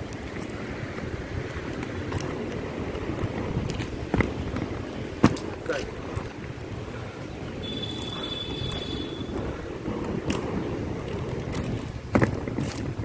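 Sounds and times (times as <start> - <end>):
skate wheels rolling on asphalt: 0.0 - 13.0
wind on microphone: 0.0 - 13.0.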